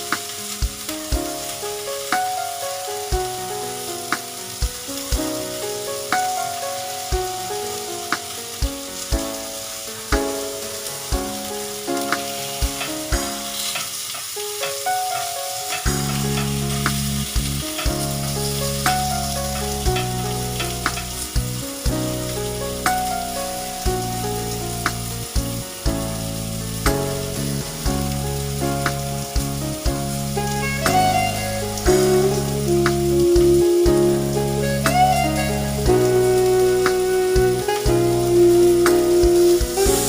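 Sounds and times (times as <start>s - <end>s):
background music with held notes: 0.0s - 40.0s
food sizzling in a pot: 0.0s - 40.0s.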